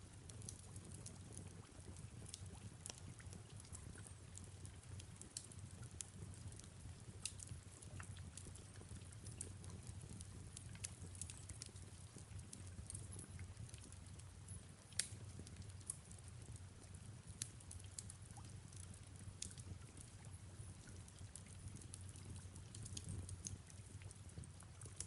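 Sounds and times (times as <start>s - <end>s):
soft rain: 0.0s - 25.0s
fireplace crackle: 0.1s - 25.0s.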